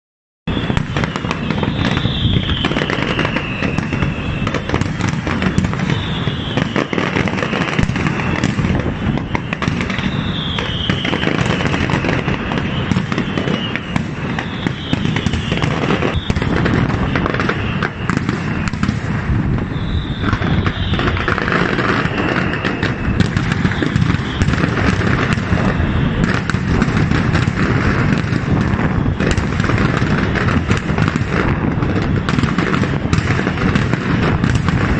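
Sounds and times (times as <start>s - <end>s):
firework whistle falling in pitch: 0.5s - 34.9s.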